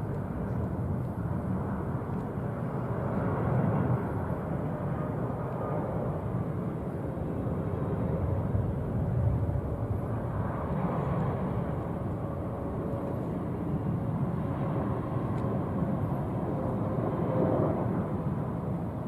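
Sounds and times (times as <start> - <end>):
jet engine noise: 0.0 - 19.0.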